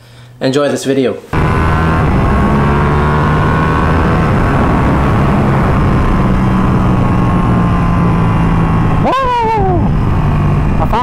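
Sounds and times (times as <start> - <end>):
motorcycle engine running: 1.4 - 11.0
wind rushing over microphone: 1.4 - 11.0.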